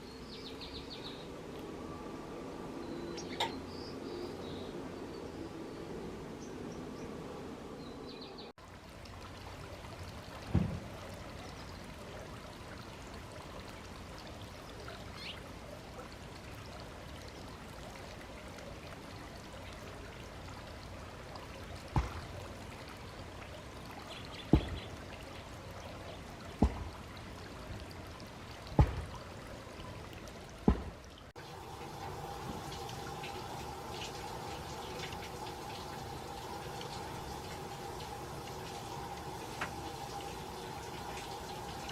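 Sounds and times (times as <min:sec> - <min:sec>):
water fountain trickling: 0:00.0 - 0:41.9.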